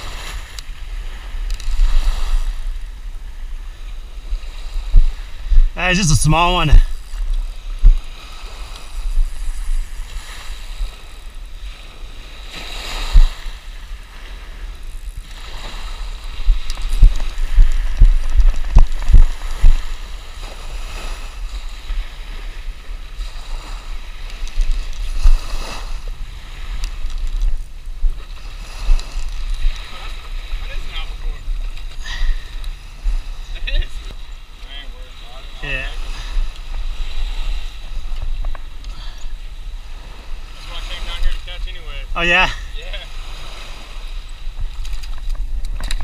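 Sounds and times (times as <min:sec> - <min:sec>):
small waves washing onto sand: 0:00.0 - 0:46.0
wind rumbling on microphone: 0:00.0 - 0:46.0.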